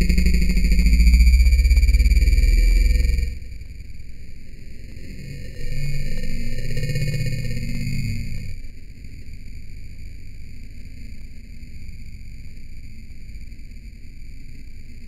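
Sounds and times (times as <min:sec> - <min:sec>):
steady electronic tone: 0:00.0 - 0:13.9
low hum: 0:00.0 - 0:15.0.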